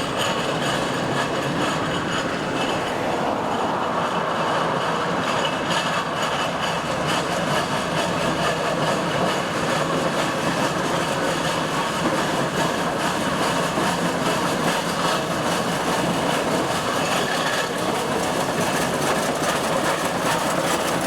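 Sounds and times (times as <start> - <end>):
steam locomotive clattering: 0.0 - 21.0.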